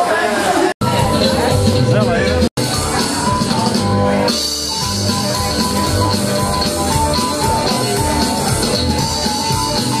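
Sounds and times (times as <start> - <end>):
rock and roll music: 0.8 - 10.0.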